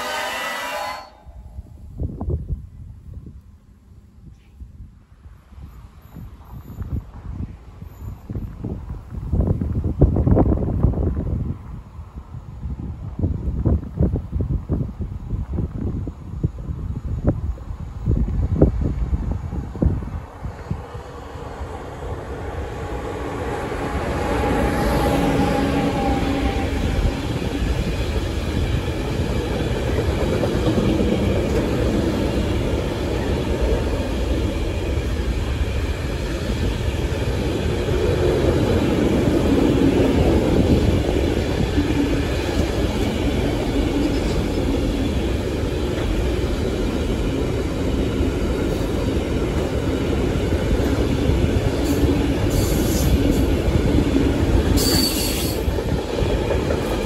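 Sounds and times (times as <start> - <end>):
train wheels rumbling on rails: 5.0 - 57.0.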